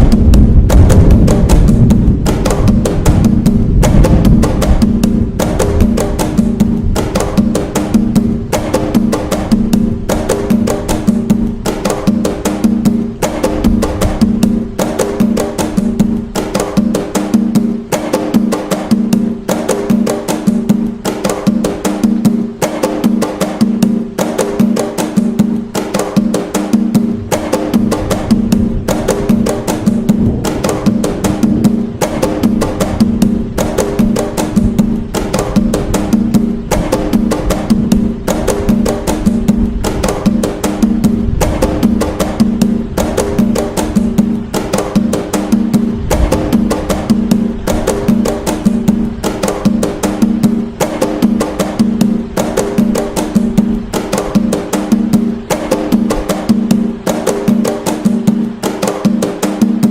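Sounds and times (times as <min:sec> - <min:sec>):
hand drums playing fast pattern: 0:00.0 - 0:59.9.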